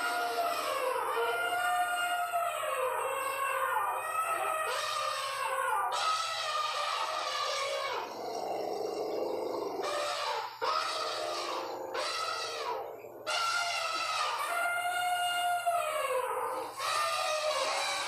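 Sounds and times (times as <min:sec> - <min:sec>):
elephant trumpeting: 0:00.0 - 0:18.0.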